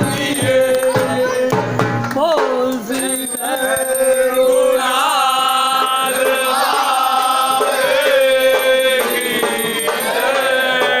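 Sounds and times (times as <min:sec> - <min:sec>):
people chanting devotional song: 0:00.0 - 0:11.0.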